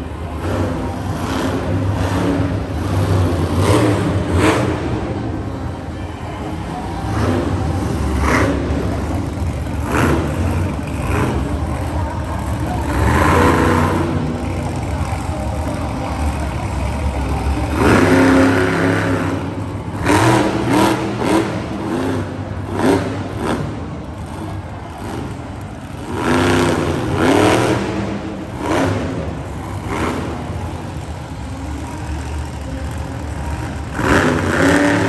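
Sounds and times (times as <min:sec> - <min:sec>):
truck engine revving hard: 0:00.0 - 0:05.8, 0:06.5 - 0:35.0.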